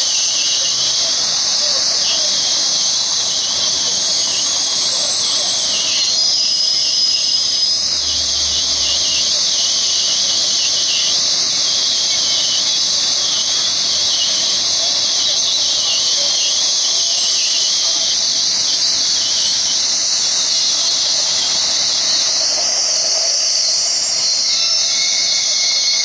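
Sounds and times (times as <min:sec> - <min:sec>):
high-pitched hiss: 0:00.0 - 0:26.0.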